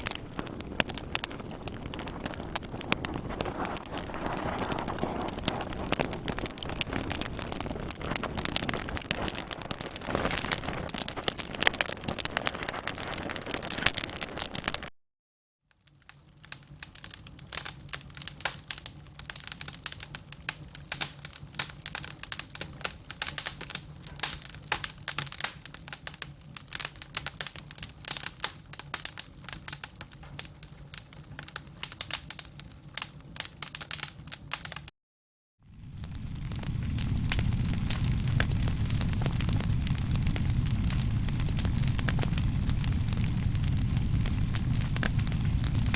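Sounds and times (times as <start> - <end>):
fire crackling and popping: 0.0 - 14.9, 15.7 - 34.9, 35.6 - 45.9.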